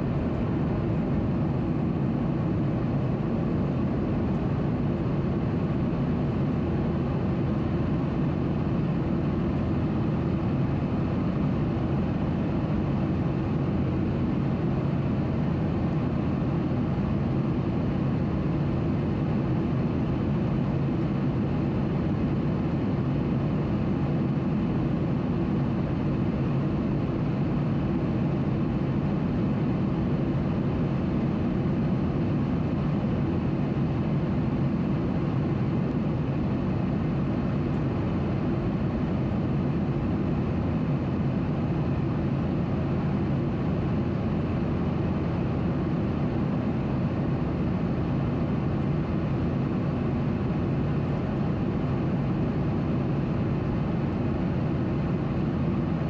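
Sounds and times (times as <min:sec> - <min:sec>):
airplane cabin jet engine drone: 0:00.0 - 0:56.0.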